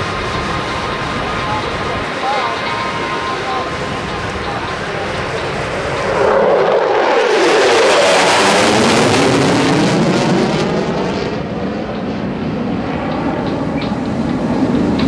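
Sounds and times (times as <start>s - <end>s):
jet engine passing overhead: 0.0s - 15.0s.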